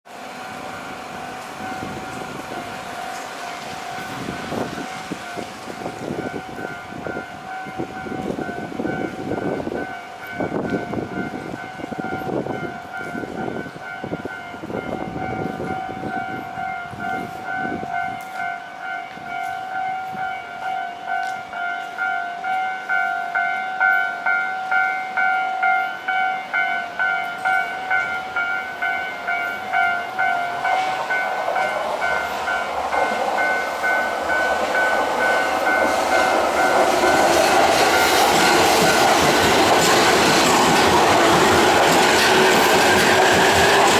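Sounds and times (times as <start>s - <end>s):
train rumbling past: 0.1s - 43.9s
level crossing bell ringing: 3.5s - 39.9s.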